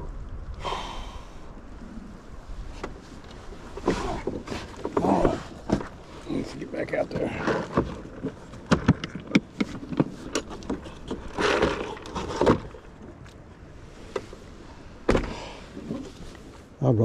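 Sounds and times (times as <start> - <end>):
clattering rustle: 2.6 - 16.7.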